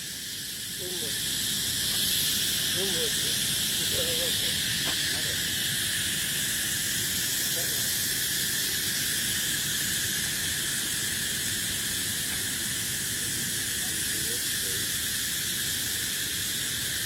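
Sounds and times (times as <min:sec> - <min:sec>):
insect chorus hissing: 0:00.0 - 0:17.0.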